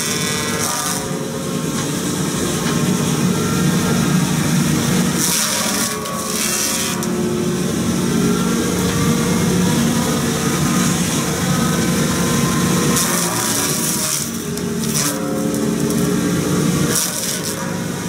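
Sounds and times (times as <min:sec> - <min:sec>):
hydraulic cutter slicing tree trunk: 0:00.0 - 0:07.3, 0:07.9 - 0:18.0
excavator engine humming: 0:00.0 - 0:18.0.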